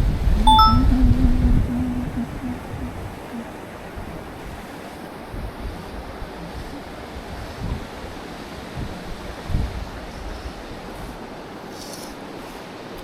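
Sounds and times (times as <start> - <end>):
wind gusts on microphone: 0.0 - 11.3.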